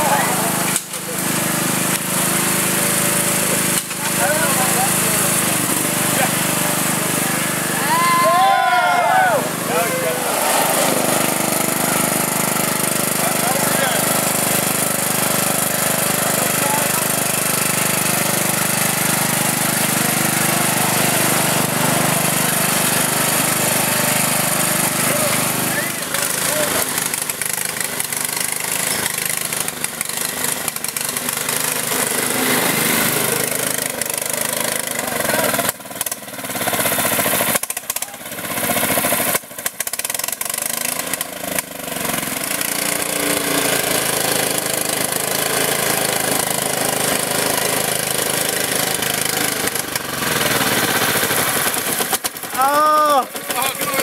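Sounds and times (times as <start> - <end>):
lawn mower engine revving: 0.0 - 54.0.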